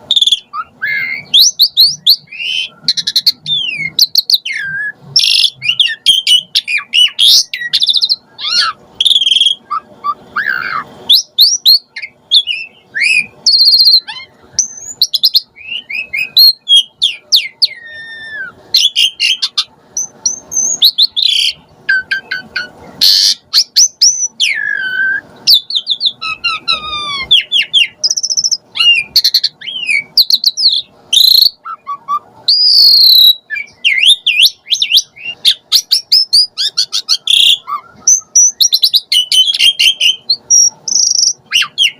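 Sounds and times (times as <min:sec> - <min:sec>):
starling singing varied song: 0:00.0 - 0:41.9.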